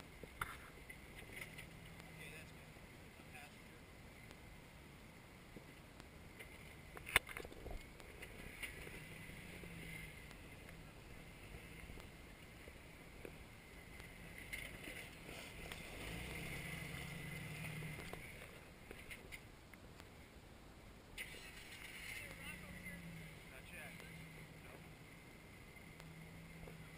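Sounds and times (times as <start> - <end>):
car engine crawling over rocks: 0.0 - 20.4, 21.1 - 26.9.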